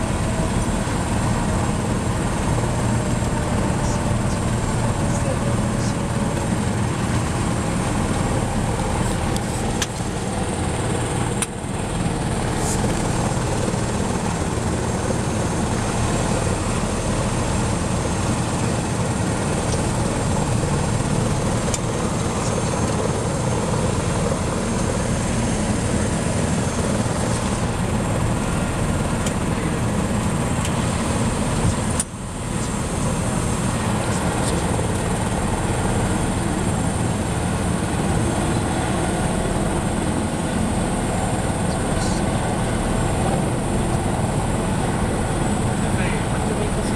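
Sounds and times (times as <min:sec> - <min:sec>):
helicopter engine and rotor: 0:00.0 - 0:46.9
high turbine whine: 0:00.0 - 0:46.9.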